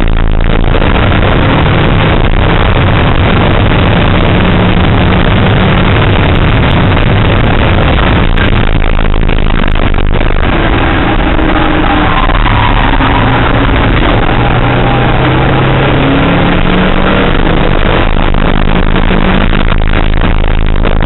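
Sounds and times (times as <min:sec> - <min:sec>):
car engine accelerating hard: 0:00.0 - 0:21.0
road and wind noise: 0:00.0 - 0:21.0.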